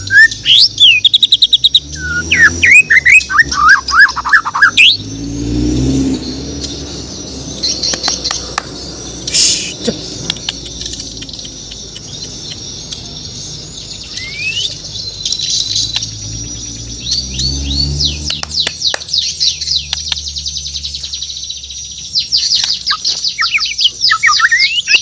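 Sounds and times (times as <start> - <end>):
bird chirping and whistling: 0.0 - 25.0.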